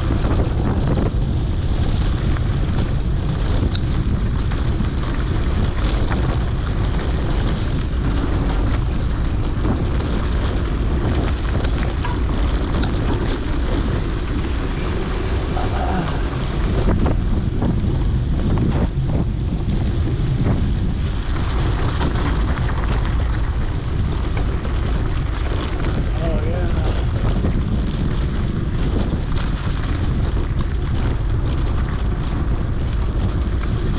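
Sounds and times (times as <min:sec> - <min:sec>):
bike clicks and rattles: 0:00.0 - 0:33.9
wind buffeting microphone: 0:00.0 - 0:33.9.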